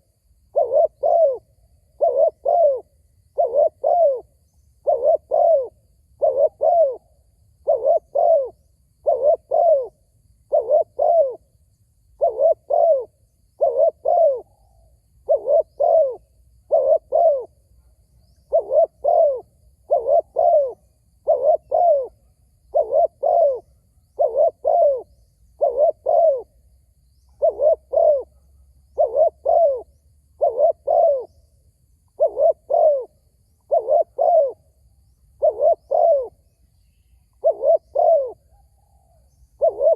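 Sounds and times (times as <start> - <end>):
dove cooing: 0.0 - 11.5, 12.1 - 26.6, 27.2 - 31.4, 32.1 - 36.5, 37.3 - 39.9.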